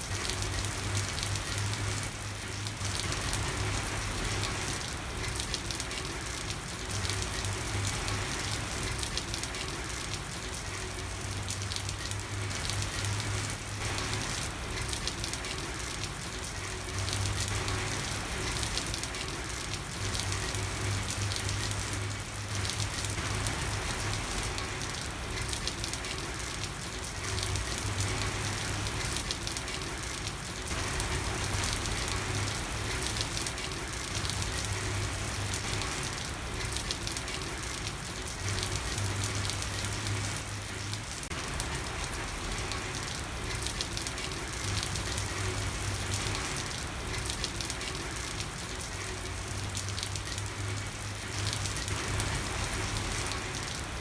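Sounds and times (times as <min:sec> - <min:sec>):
rain falling on a street: 0:00.0 - 0:54.0.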